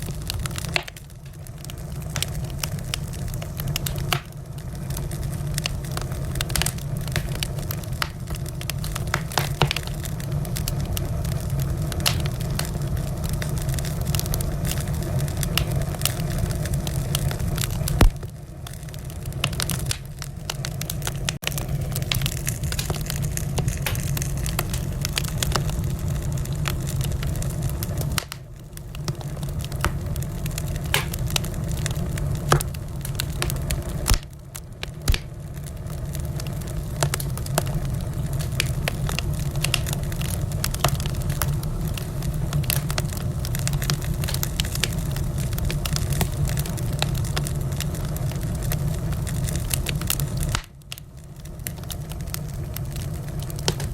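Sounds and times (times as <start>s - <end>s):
loud crack of fire: 0.0s - 53.9s
low fire rumble: 0.0s - 53.9s
wood fire crackling and popping: 0.0s - 53.9s.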